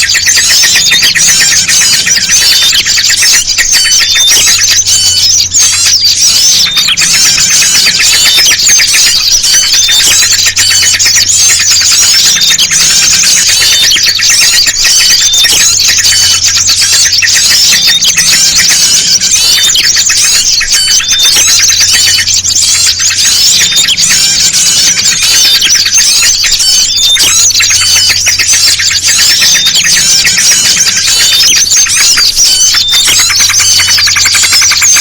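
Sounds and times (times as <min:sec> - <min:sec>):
small songbirds chirping and trilling: 0:00.0 - 0:35.0.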